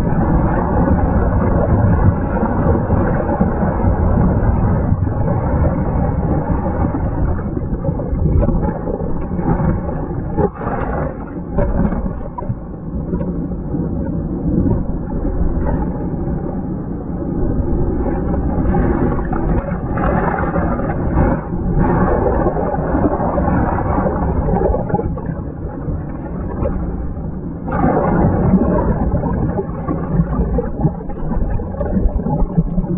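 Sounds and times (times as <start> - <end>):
water churning underwater rumble: 0.0 - 32.9.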